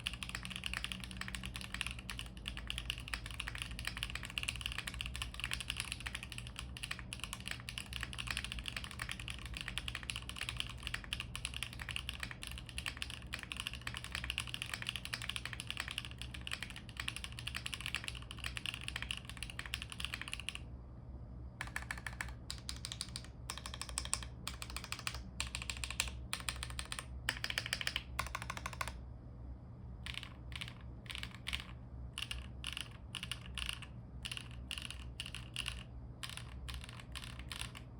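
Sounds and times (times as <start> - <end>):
mechanical keyboard typing: 0.0 - 20.6, 21.6 - 29.0, 30.0 - 37.9.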